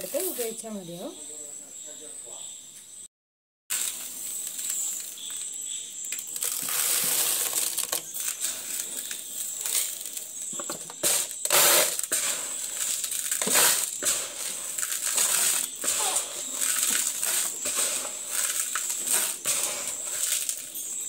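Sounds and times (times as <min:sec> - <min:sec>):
dry grains poured into plastic jar: 0:03.7 - 0:20.9.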